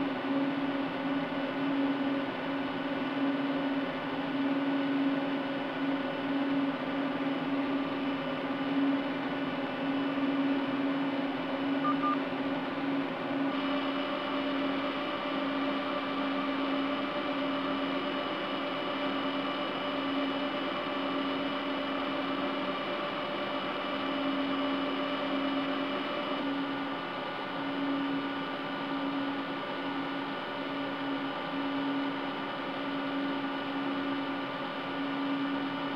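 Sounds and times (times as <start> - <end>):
cooling fans whirring and whining: 0.0 - 35.9.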